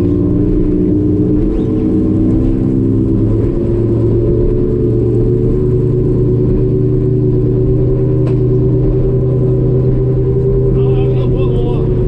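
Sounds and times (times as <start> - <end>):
water and wind noise: 0.0 - 10.7
outboard motor running: 0.0 - 12.0.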